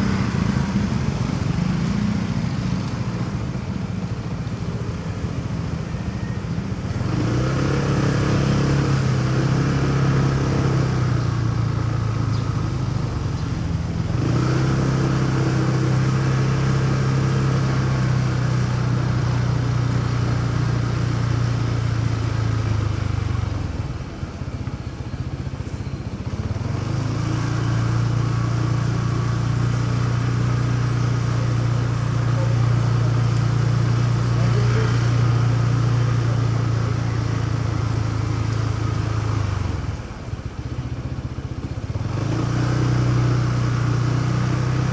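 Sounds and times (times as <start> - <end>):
motorcycle engine running: 0.0 - 44.9
road and traffic noise: 0.0 - 44.9.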